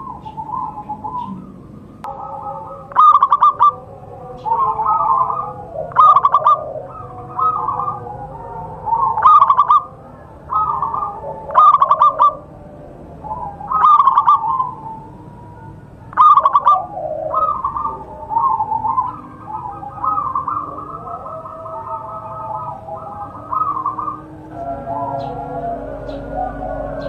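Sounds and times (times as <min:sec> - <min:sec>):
doves cooing: 0:00.0 - 0:27.0.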